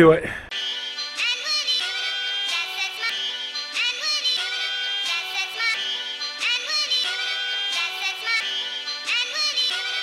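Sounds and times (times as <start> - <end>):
music with vocal melody: 0.5 - 10.0.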